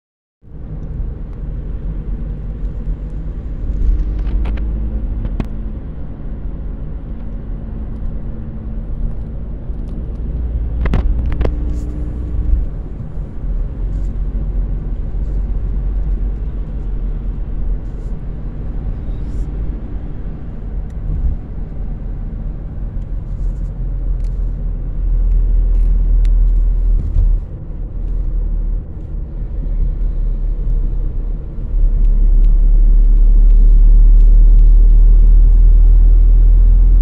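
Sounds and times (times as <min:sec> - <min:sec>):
car engine and tyre rumble: 0:00.4 - 0:37.0.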